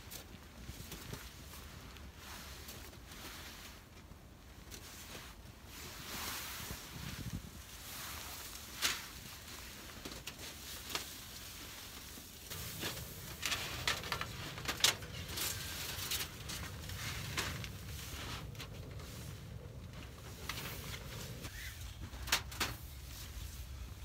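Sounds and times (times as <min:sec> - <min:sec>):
tent fabric rustling: 0:00.0 - 0:24.0.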